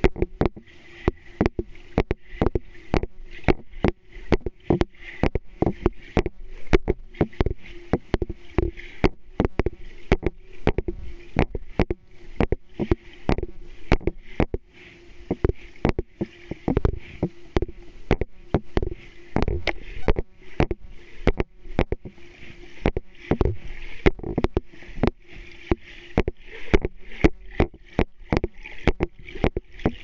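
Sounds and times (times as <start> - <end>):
sharp underwater clicks and knocks: 0.0 - 30.0
steady low hum: 0.0 - 30.0.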